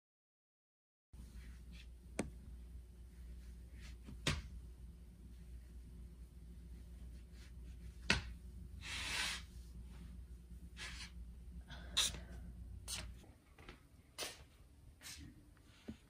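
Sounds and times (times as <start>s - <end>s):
low room hum: 1.2s - 16.0s.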